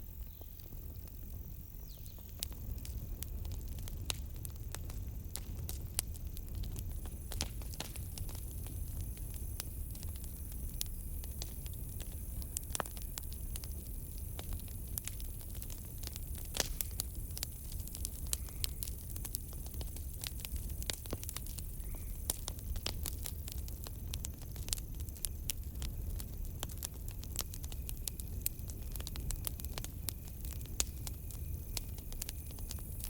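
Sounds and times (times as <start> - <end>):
campfire crackling and popping: 0.0 - 33.0
crickets trilling: 0.0 - 33.0.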